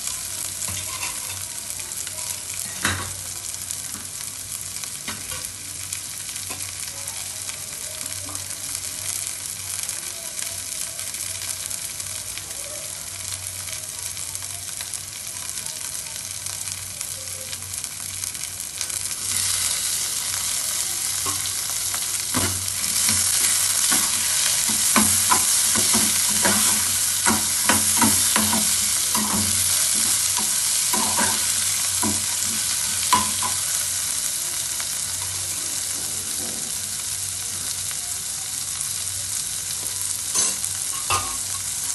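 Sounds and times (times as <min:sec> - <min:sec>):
vegetables sizzling in oil: 0:00.0 - 0:41.9.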